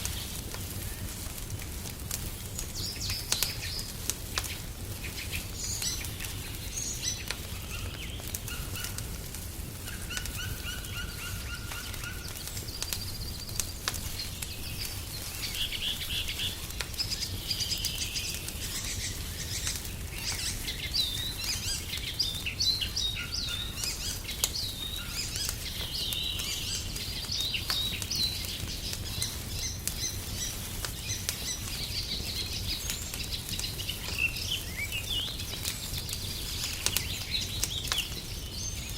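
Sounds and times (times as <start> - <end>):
wood fire crackling: 0.0 - 38.9
songbirds chirping and singing: 2.4 - 38.9.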